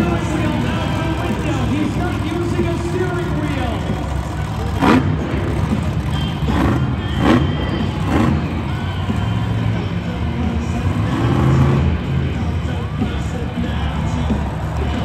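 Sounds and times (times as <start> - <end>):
engine sharp bursts: 0.0 - 15.0
truck engine running loud: 0.0 - 15.0.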